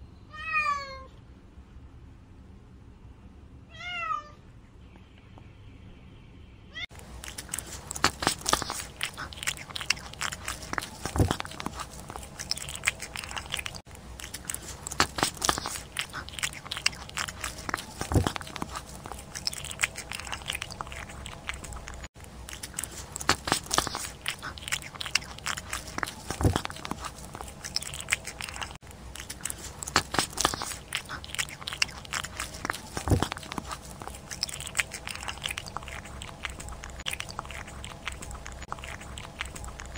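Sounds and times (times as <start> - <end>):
cat chewing wet food: 6.9 - 39.9.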